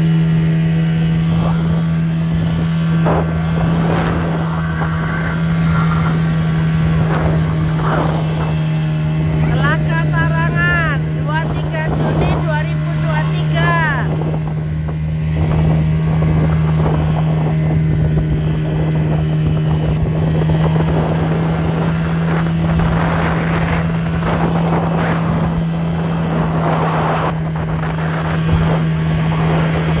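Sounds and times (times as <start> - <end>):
speedboat engine running: 0.0 - 30.0
water rushing past hull: 0.0 - 30.0
wind buffeting microphone: 0.0 - 30.0.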